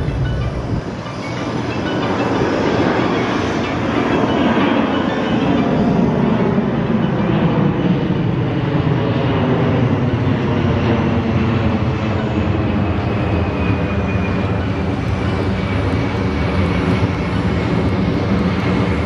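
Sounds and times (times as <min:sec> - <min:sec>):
deep jet roar: 0:00.0 - 0:04.8, 0:07.9 - 0:19.0
faint high jet whine: 0:00.0 - 0:19.0.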